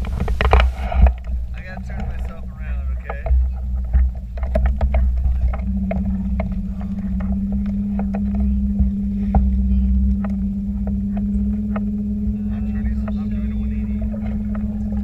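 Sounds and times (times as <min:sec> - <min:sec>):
boat motor humming: 0:00.0 - 0:15.0
low rumble: 0:00.0 - 0:15.0
water lapping against hull: 0:00.0 - 0:15.0.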